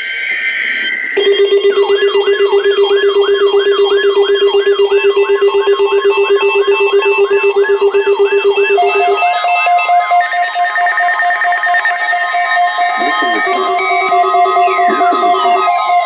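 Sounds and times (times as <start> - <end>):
high electronic data tones: 0.0 - 16.0
pulsing warbling alert tones: 0.4 - 16.0.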